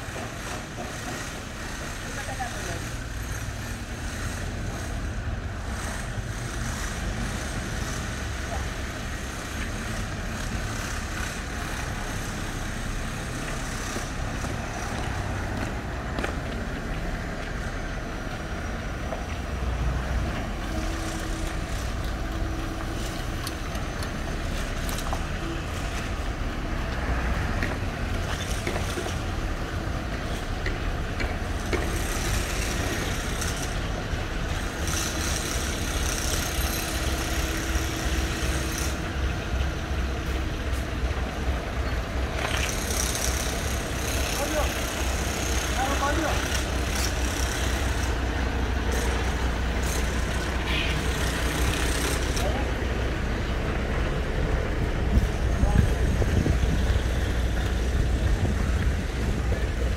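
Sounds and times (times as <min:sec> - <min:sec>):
bus diesel engine rumbling: 0:00.0 - 0:59.9.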